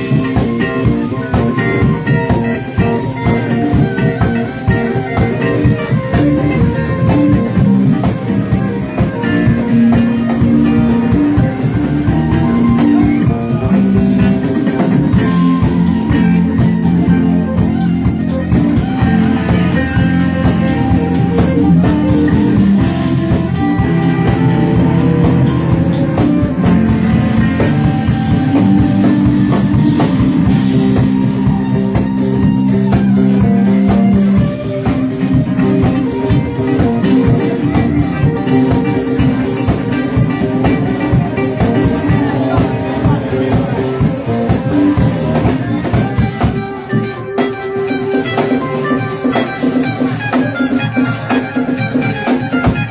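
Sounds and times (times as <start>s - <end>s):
bass guitar: 0.0s - 52.9s
drum kit playing: 0.0s - 52.9s
electric guitar: 0.0s - 52.9s.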